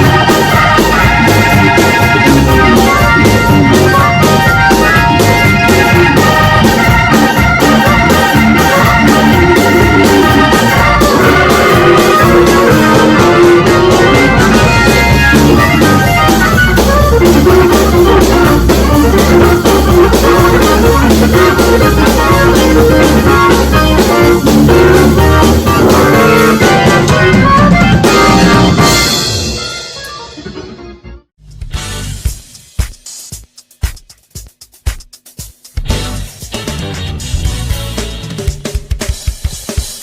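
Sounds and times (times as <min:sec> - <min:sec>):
organ and keyboard music with beat: 0:00.0 - 0:40.0.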